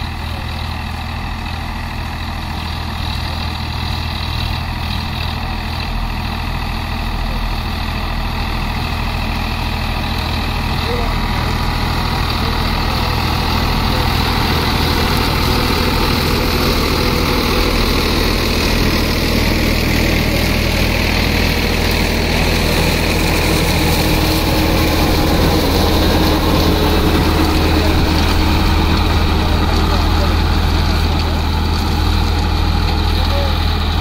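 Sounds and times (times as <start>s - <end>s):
rotavator churning soil: 0.0s - 34.0s
tractor diesel engine running: 0.0s - 34.0s.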